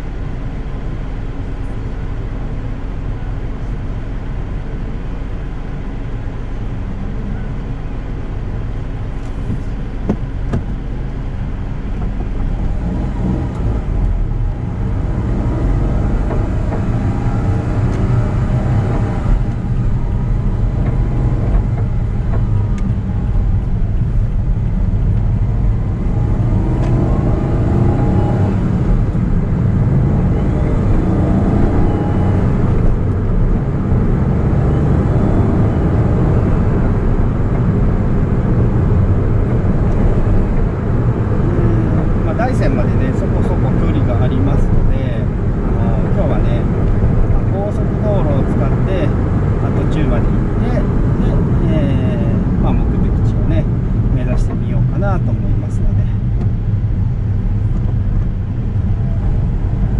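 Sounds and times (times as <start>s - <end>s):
road noise: 0.0s - 59.9s
car engine accelerating: 5.8s - 59.9s.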